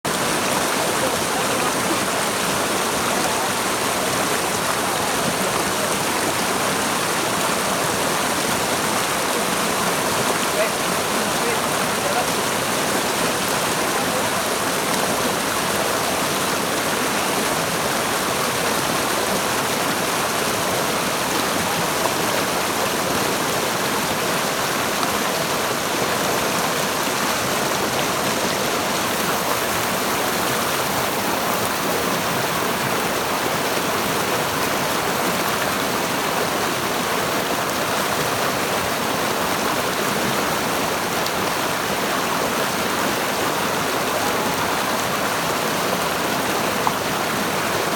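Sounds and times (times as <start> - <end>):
river rushing over rocks: 0.1 - 47.9.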